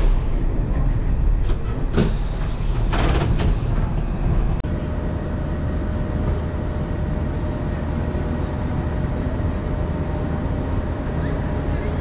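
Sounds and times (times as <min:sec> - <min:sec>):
tram equipment humming: 0:00.0 - 0:12.0.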